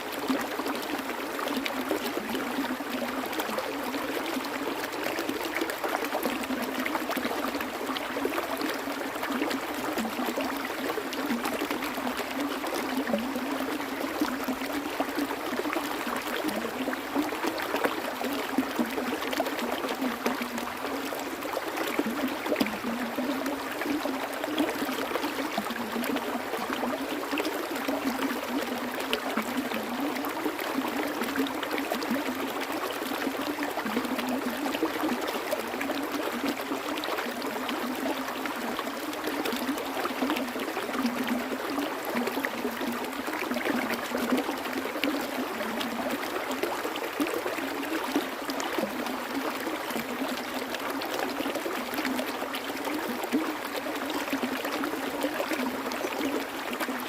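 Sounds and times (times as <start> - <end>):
small stream flowing: 0.0 - 57.0.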